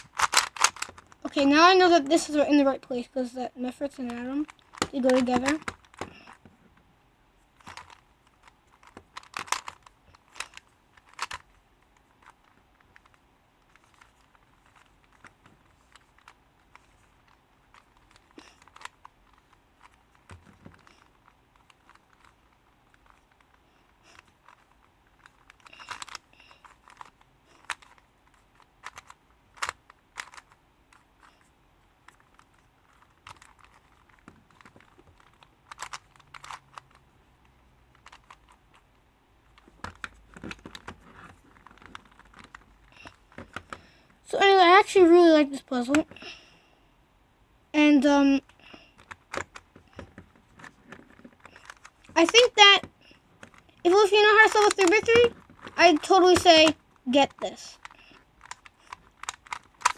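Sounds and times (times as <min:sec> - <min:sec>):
plastic puzzle clicking: 0:00.0 - 0:02.9, 0:03.8 - 0:06.6, 0:07.6 - 0:44.0, 0:45.8 - 0:46.3, 0:48.4 - 0:59.9.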